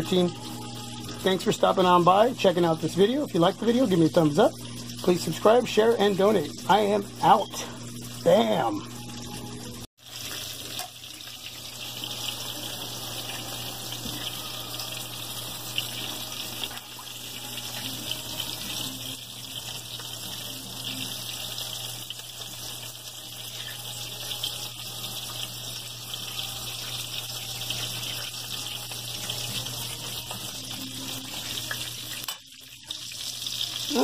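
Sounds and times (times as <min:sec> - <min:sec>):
stovetop cooking hiss: 0:00.0 - 0:34.0.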